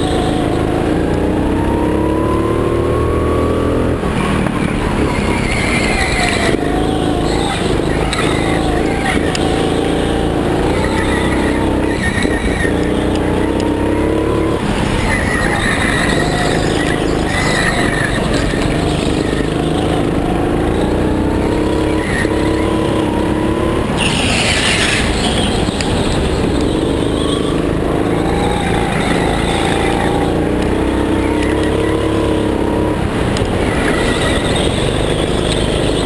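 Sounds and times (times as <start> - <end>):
go-kart engine revving: 0.0 - 36.0
tyres skidding: 0.0 - 36.0.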